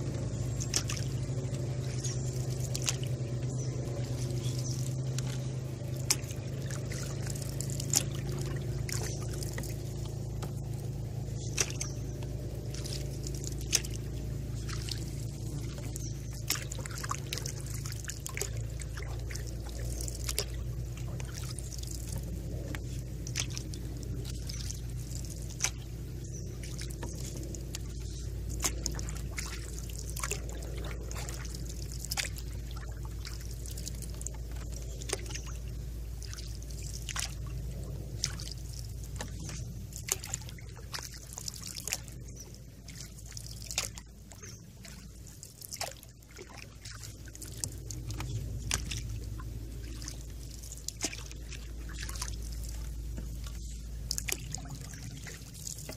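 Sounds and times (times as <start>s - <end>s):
low steady rumble: 0.0s - 55.9s
water trickling and dripping: 0.0s - 55.9s.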